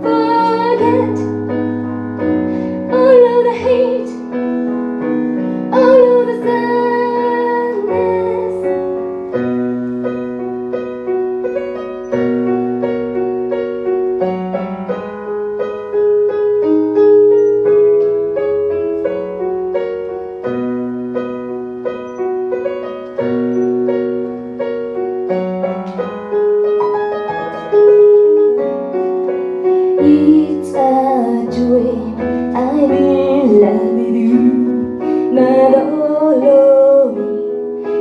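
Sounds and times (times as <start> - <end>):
slow piano ballad: 0.0 - 38.0.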